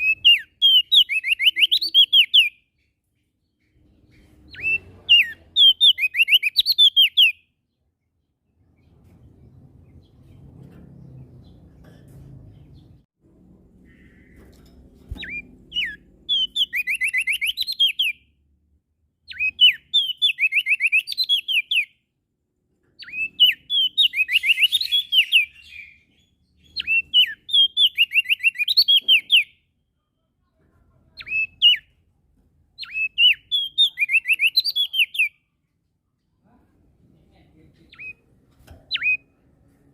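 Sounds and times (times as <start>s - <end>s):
bird singing repeated phrases: 0.0s - 11.7s, 13.9s - 30.4s, 31.0s - 32.1s, 32.7s - 35.8s, 37.0s - 39.4s.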